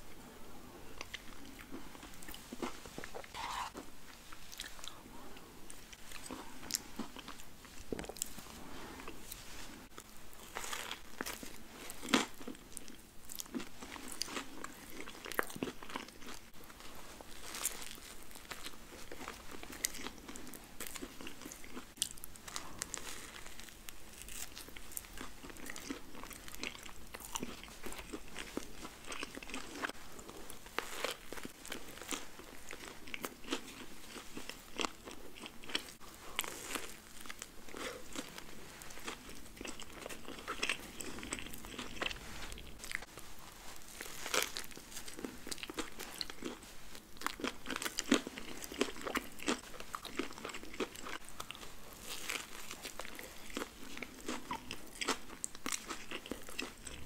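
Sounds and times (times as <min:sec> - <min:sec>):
person chewing food: 0:00.1 - 0:57.0.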